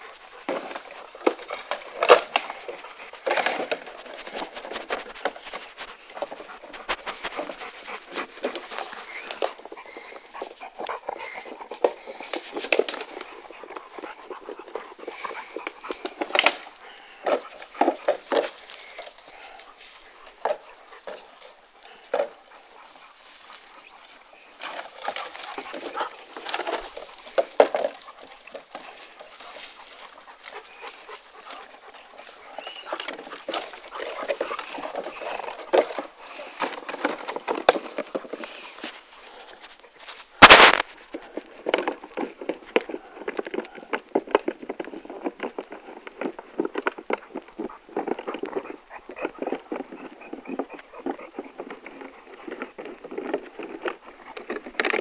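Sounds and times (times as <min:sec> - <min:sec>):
dogs making short vocal sounds: 0:00.0 - 0:55.0.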